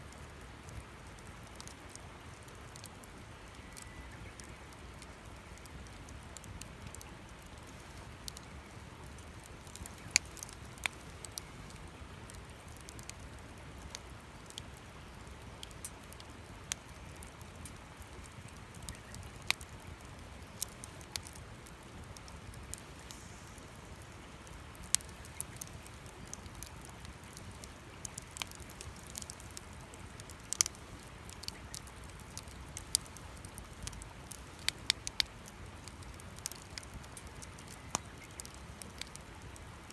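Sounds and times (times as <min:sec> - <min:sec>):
campfire crackling: 0:00.0 - 0:39.9
faint steady hiss: 0:00.0 - 0:39.9.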